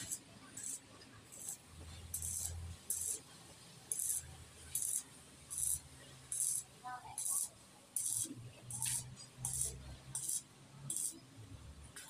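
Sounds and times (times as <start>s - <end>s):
welding arc crackling and hissing: 0.0s - 11.3s.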